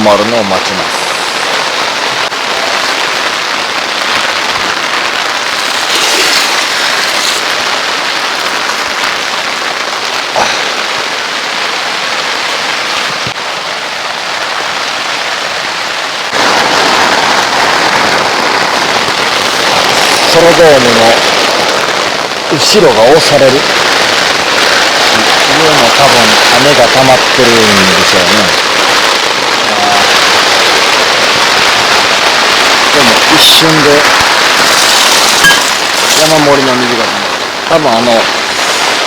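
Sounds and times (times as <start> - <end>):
heavy rain on tent fabric: 0.0 - 39.0.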